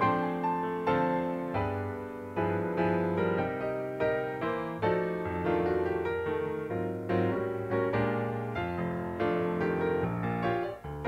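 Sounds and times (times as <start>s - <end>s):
keyboard instrumental music: 0.0s - 11.0s.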